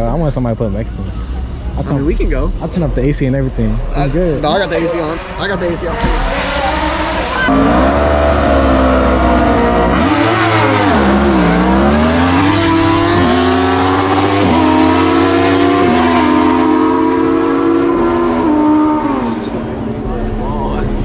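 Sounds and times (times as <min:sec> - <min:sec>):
car engine accelerating hard: 0:01.5 - 0:21.0.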